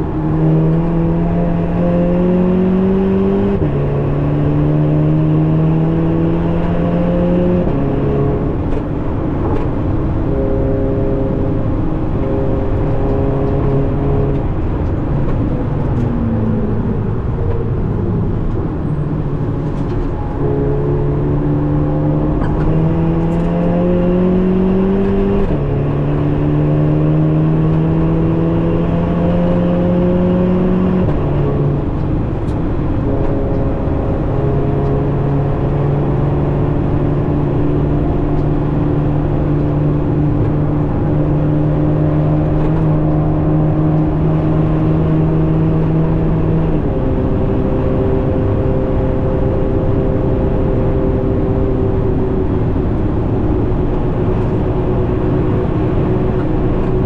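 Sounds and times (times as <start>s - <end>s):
car engine revving: 0.0s - 57.0s
tyre and road noise: 0.0s - 57.0s.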